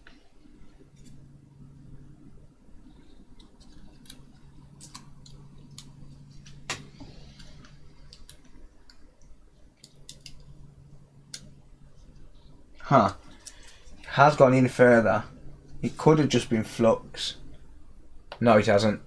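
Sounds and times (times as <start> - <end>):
low hum: 0.0 - 18.4.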